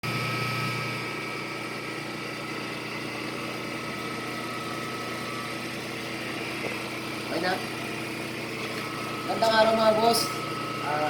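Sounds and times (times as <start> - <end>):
lathe humming with high whine: 0.0 - 11.0.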